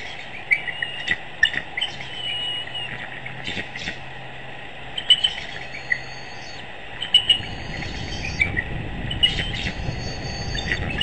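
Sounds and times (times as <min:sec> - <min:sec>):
high held bird notes: 0:00.0 - 0:04.1, 0:04.9 - 0:11.0
songbirds chirping: 0:00.0 - 0:11.0.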